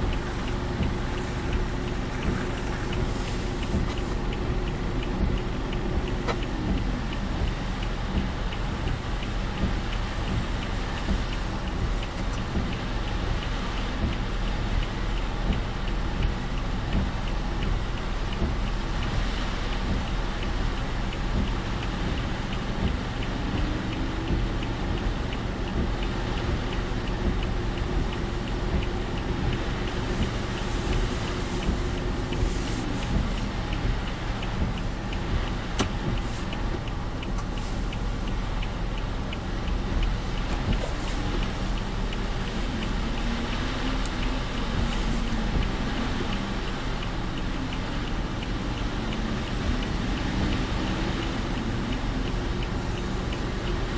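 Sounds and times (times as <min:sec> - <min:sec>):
faint drone: 0:00.0 - 0:53.9
low engine rumble: 0:00.0 - 0:53.9
rain on car body: 0:00.0 - 0:53.9
tyre and road noise: 0:00.0 - 0:53.9.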